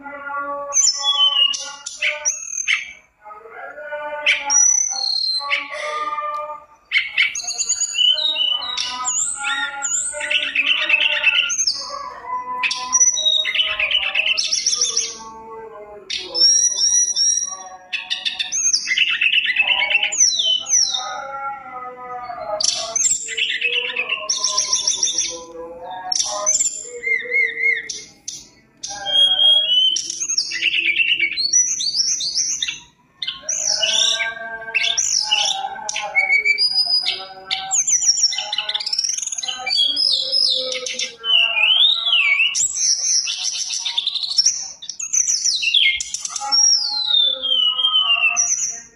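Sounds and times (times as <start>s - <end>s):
bird singing whistles and trills: 0.8s - 3.1s, 4.3s - 6.0s, 6.9s - 15.3s, 16.1s - 21.1s, 22.3s - 48.9s.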